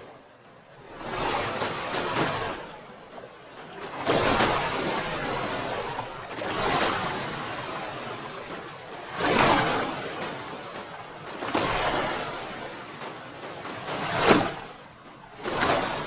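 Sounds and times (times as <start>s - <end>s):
sea waves crashing: 0.0s - 16.0s.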